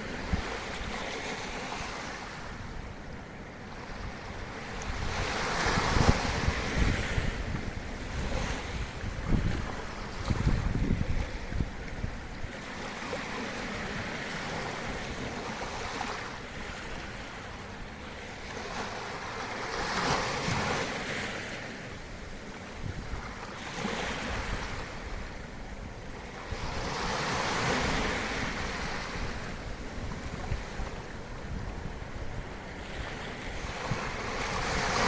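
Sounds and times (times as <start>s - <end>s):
wind rumble on microphone: 0.0s - 19.1s, 20.0s - 35.0s
small waves breaking on shore: 0.0s - 35.0s.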